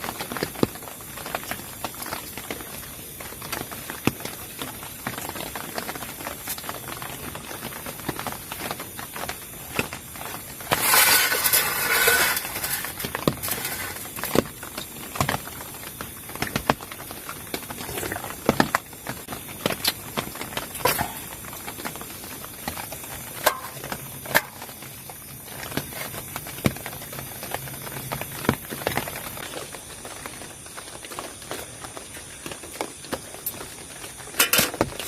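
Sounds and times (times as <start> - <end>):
raindrops pattering on a tent: 0.0 - 35.0.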